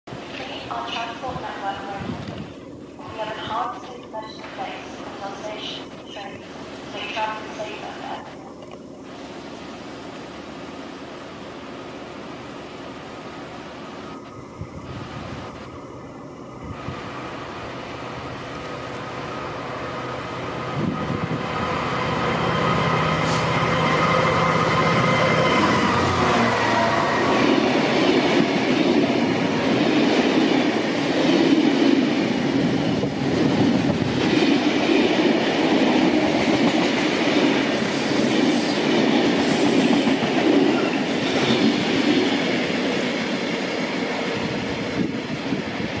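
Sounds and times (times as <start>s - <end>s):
diesel locomotive passing: 0.1s - 46.0s.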